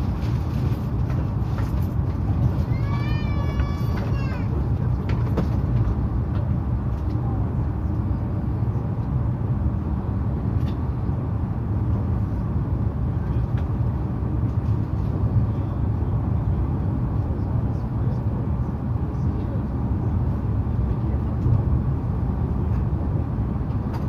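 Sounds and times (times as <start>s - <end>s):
electric train low rumble: 0.0s - 24.0s.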